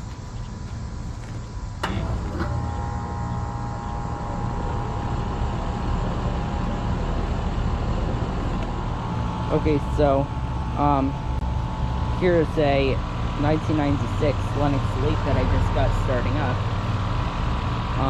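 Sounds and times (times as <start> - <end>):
compressor and fan humming: 0.0 - 18.0
steady low hum: 0.0 - 18.0
steady whine: 0.0 - 18.0.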